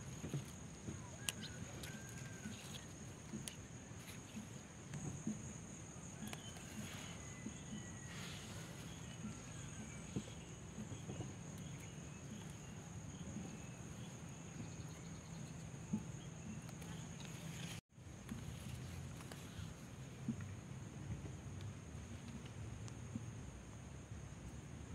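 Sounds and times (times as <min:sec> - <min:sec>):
rustling of plants being handled: 0:00.0 - 0:23.3.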